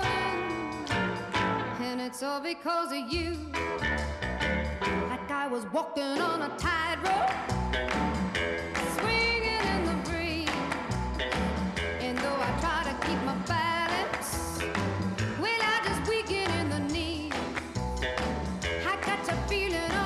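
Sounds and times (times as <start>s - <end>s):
pop song with singer: 0.0s - 3.8s, 5.0s - 7.7s, 8.7s - 20.0s.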